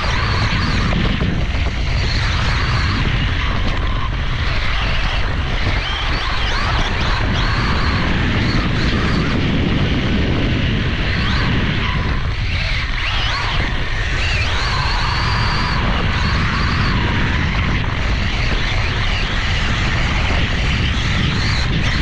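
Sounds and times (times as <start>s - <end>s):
electric motor whining: 0.0s - 22.0s
steady low rumble: 0.0s - 22.0s.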